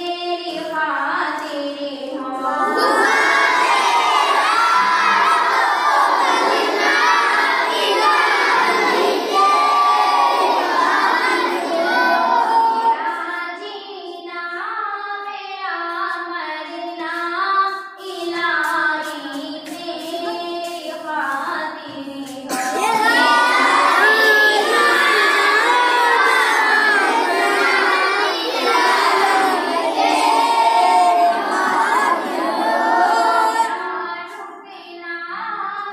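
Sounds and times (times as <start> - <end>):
girls singing a hymn: 0.0 - 35.9.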